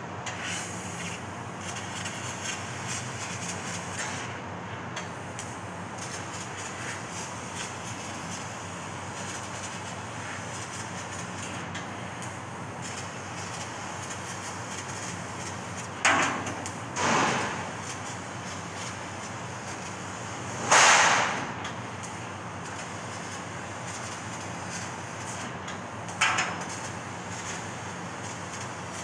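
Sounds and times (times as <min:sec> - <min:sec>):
laser cutting machine hiss and hum: 0:00.0 - 0:29.0.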